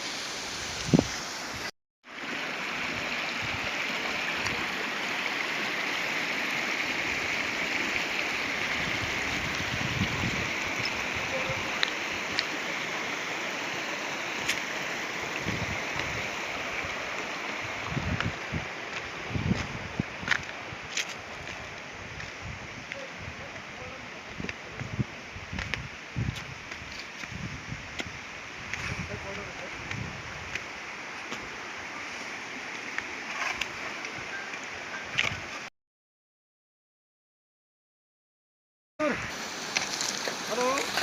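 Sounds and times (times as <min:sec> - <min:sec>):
stream rushing: 0:00.0 - 0:35.7, 0:39.0 - 0:41.0.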